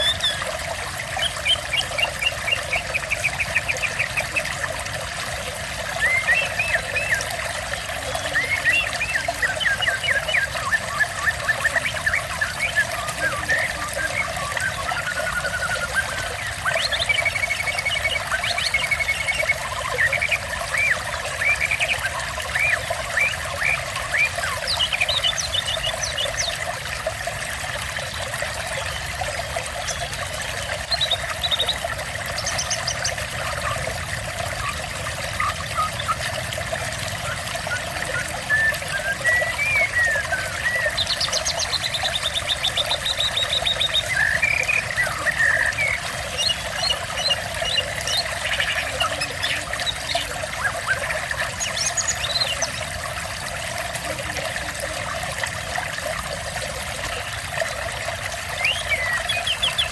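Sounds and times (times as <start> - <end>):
songbirds chirping and trilling: 0.0 - 55.7, 56.3 - 59.9
water trickling and splashing: 0.0 - 59.9.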